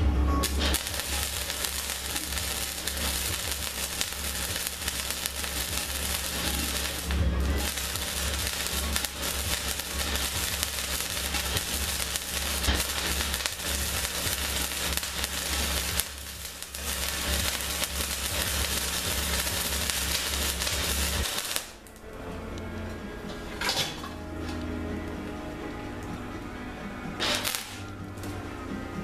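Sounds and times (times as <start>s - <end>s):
welding arc crackling: 0.0s - 22.3s, 27.0s - 28.6s.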